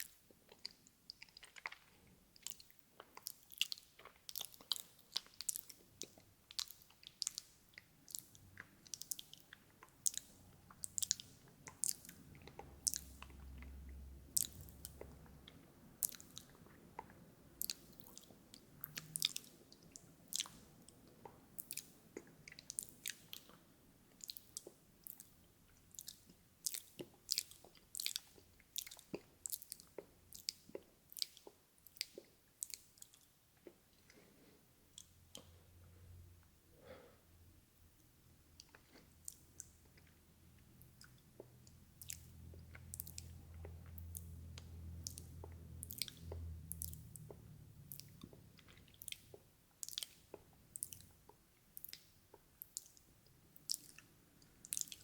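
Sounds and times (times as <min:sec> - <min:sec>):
wet lip and tongue clicks: 0:00.0 - 0:34.2, 0:34.9 - 0:35.6, 0:38.0 - 0:55.0.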